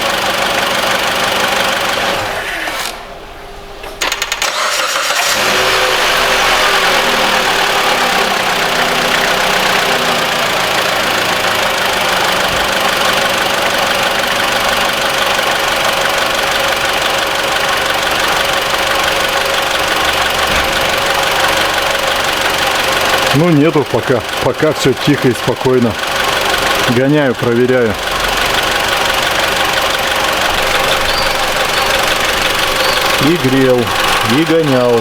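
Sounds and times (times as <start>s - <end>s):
car engine idling: 0.0s - 2.4s, 3.1s - 35.0s.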